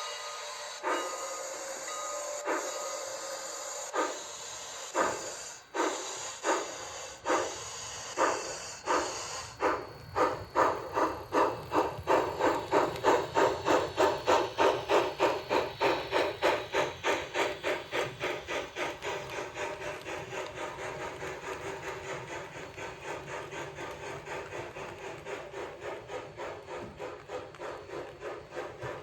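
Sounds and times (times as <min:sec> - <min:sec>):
model steam locomotive chuffing: 0:00.0 - 0:29.0
steam hiss: 0:00.0 - 0:29.0.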